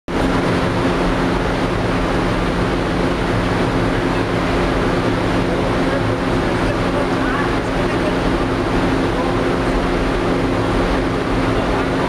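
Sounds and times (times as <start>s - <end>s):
furnace roaring: 0.1s - 12.0s
low hum: 0.1s - 12.0s.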